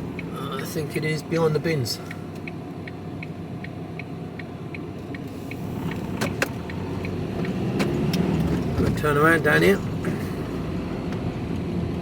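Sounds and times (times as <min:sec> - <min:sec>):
engine running: 0:00.0 - 0:12.0
turn signal ticking: 0:00.0 - 0:12.0.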